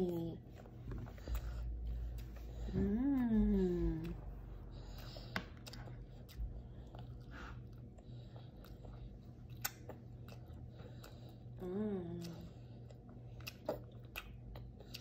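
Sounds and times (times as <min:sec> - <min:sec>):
low steady hum: 0:00.0 - 0:15.0
soft chewing: 0:00.0 - 0:15.0.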